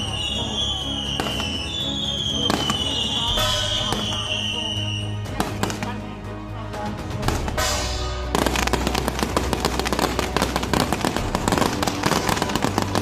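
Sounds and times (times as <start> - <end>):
fireworks bursting with crackling pops: 0.0 - 6.0, 7.2 - 13.0
music: 0.0 - 13.0.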